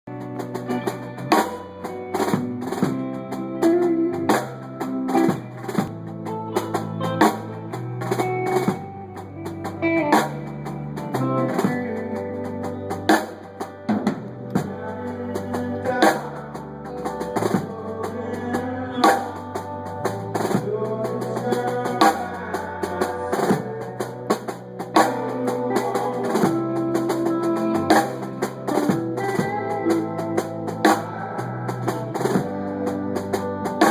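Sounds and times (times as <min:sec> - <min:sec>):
muffled band music: 0:00.1 - 0:33.9.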